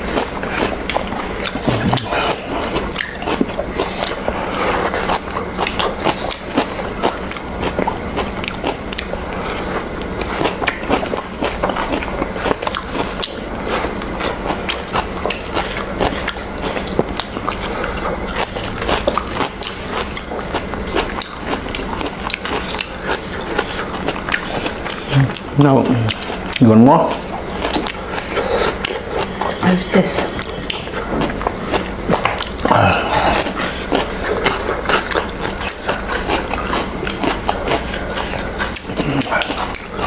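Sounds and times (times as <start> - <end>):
crunchy chewing of salad: 0.0 - 40.0.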